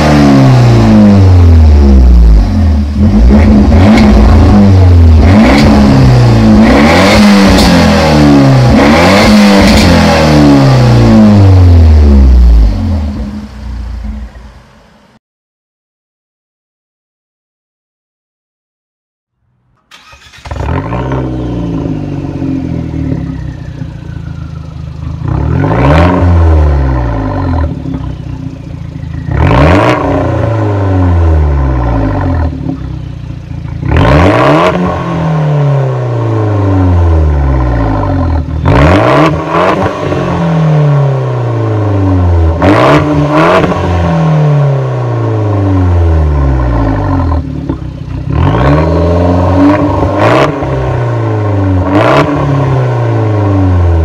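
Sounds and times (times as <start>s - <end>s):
car engine revving: 0.0s - 14.7s, 19.9s - 54.0s.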